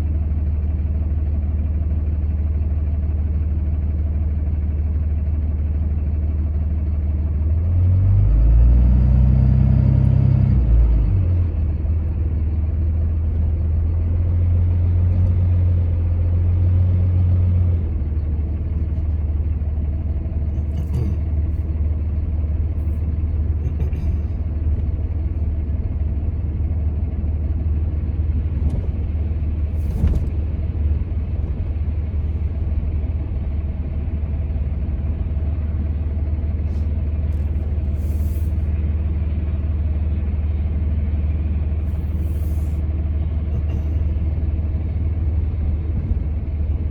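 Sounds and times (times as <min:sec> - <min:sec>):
truck engine rumbling: 0:00.0 - 0:46.9
road noise: 0:07.6 - 0:46.9.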